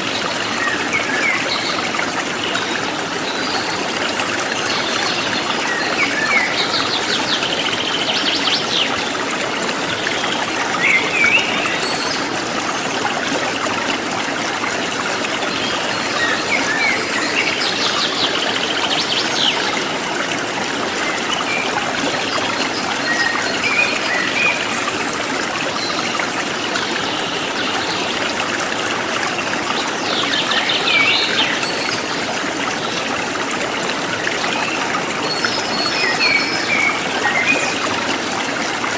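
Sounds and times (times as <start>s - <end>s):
forest stream flowing: 0.0s - 38.9s.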